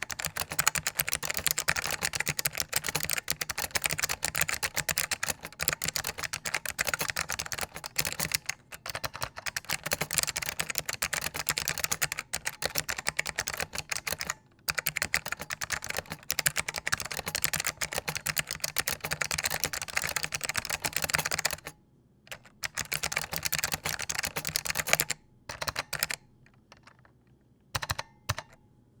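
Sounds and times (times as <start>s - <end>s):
fast clicky keyboard typing: 0.0s - 21.7s, 22.3s - 27.1s, 27.8s - 28.6s.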